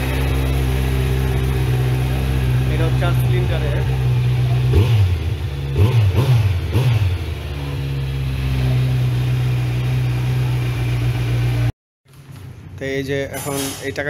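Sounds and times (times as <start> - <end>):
motorcycle engine idling and revving: 0.0 - 11.8.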